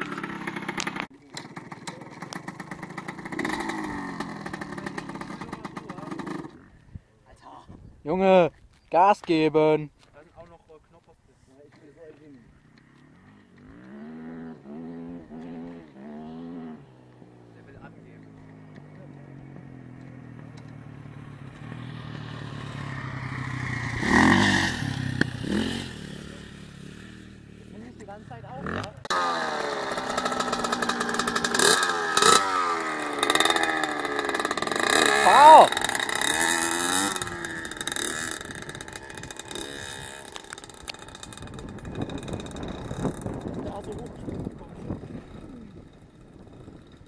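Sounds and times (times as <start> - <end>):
two-stroke motorbike engine: 0.0 - 6.7, 12.5 - 47.0.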